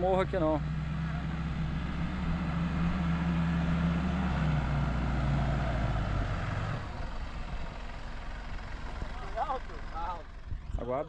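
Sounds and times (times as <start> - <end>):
pickup engine under load: 0.0 - 11.0.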